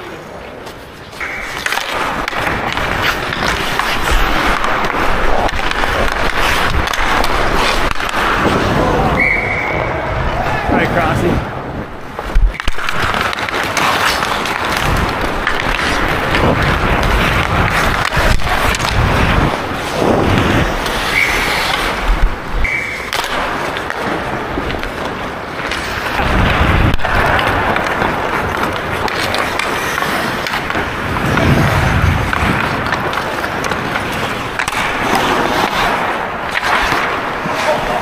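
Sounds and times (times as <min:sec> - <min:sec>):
skate blades scraping on ice: 0:00.0 - 0:38.0.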